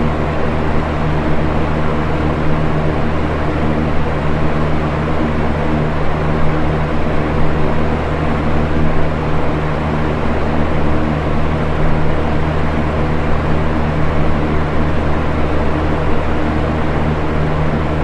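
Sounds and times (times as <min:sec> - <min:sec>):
box fan running: 0:00.0 - 0:18.0.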